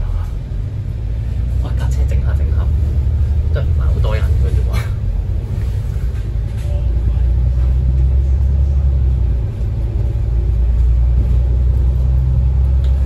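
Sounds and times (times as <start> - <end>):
bus engine deep rumble: 0.0 - 13.0.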